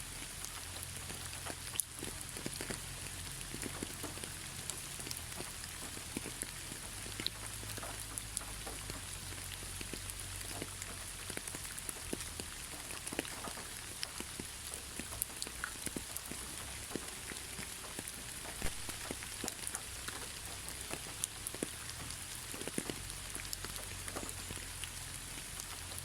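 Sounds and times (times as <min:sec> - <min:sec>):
rain hissing: 0:00.0 - 0:26.0
raindrops ticking on hard surface: 0:00.0 - 0:26.0.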